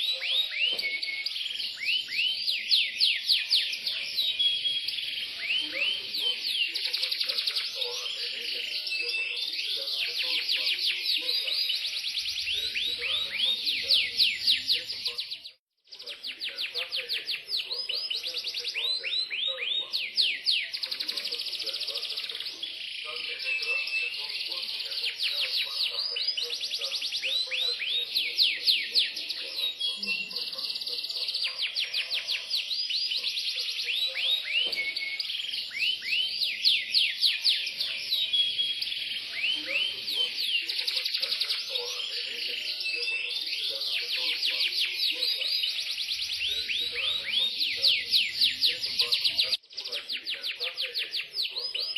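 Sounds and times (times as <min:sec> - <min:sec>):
canary singing: 0:00.0 - 0:51.9.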